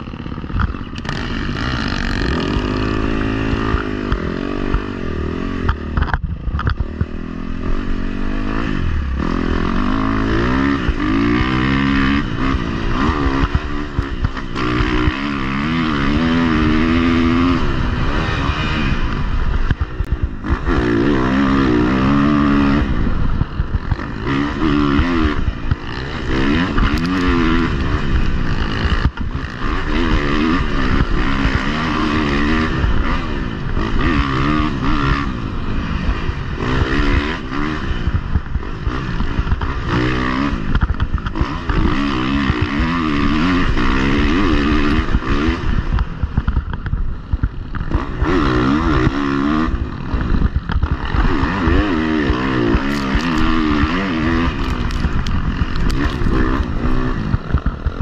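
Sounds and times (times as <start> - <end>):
constant rushing noise: 0.0 - 58.0
dirt bike engine revving: 0.0 - 58.0.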